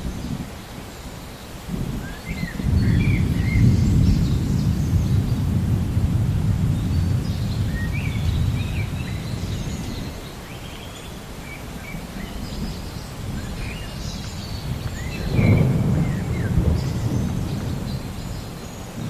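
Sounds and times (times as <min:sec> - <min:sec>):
small birds chirping: 0:00.0 - 0:05.6, 0:06.5 - 0:19.0
distant thunder rumbling: 0:01.6 - 0:10.4, 0:11.2 - 0:19.0.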